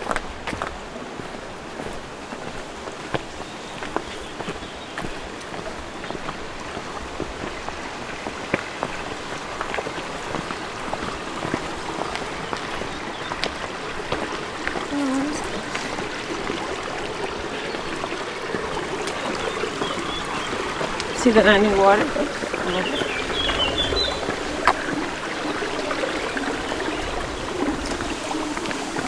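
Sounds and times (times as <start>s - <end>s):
footsteps on a lane: 0.0s - 29.0s
water rushing in a stream: 0.0s - 29.0s.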